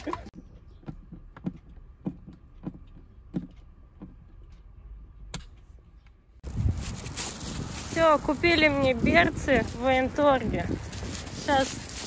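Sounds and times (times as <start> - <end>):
footsteps walking: 0.0 - 4.7, 6.4 - 12.0.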